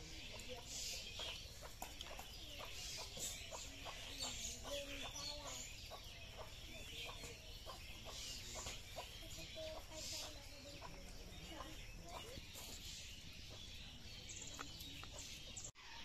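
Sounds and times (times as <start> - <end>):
chickens clucking quietly: 0.0 - 16.0.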